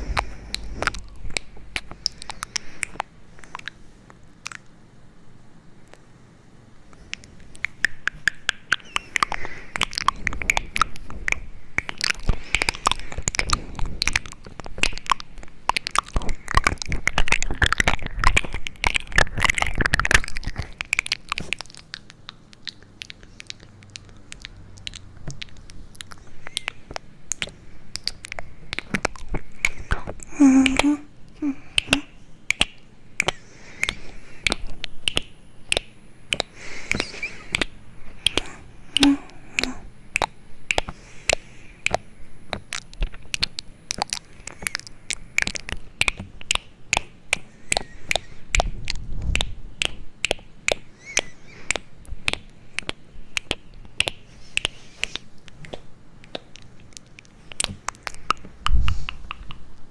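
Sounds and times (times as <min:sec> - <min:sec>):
crunchy crackling clicks: 0:06.9 - 0:59.9.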